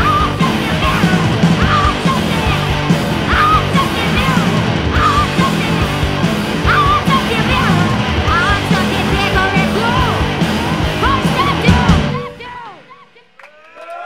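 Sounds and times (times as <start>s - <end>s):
distorted electric guitar: 0.0s - 12.5s
drum kit playing: 0.0s - 12.6s.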